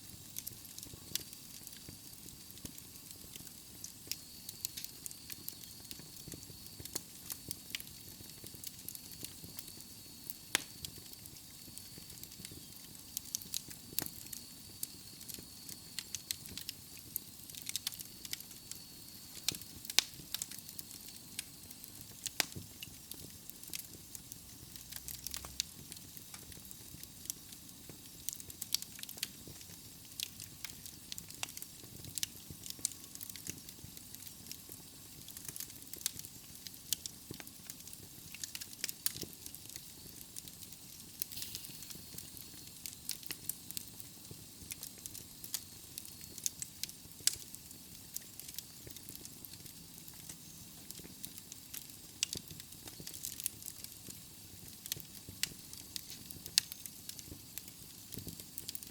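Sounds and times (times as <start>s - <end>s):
burning logs crackling and popping: 0.0s - 58.9s
fire hissing: 0.0s - 58.9s.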